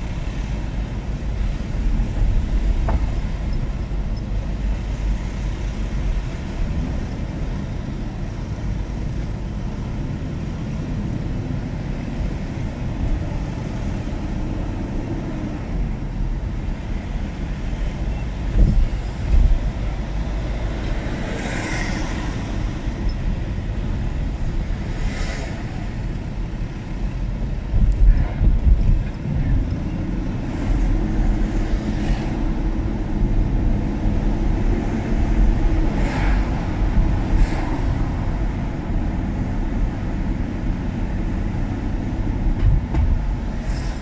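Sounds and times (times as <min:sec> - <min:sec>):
road and engine rumble: 0:00.0 - 0:44.0.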